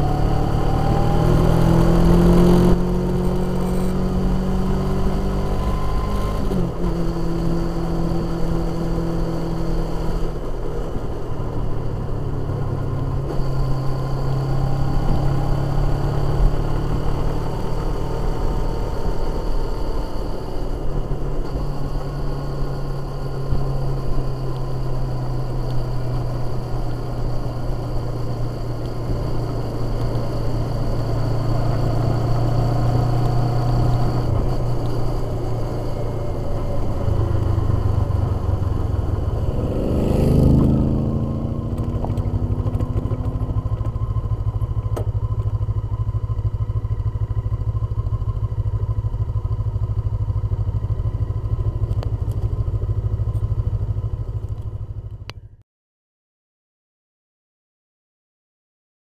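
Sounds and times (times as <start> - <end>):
motorcycle engine running: 0.0 - 55.6.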